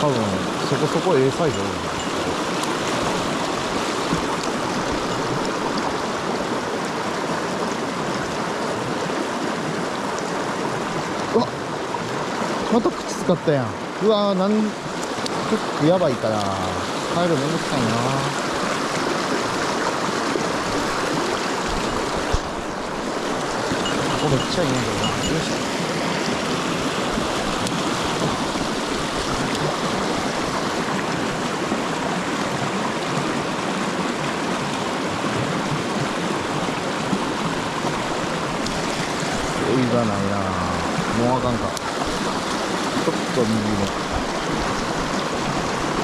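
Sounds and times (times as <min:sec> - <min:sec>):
stream water rushing over rocks: 0:00.0 - 0:46.0.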